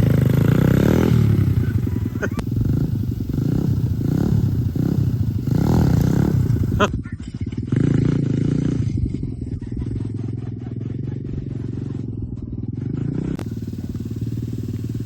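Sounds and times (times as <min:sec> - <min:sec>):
pit bike engine running: 0:00.0 - 0:15.0.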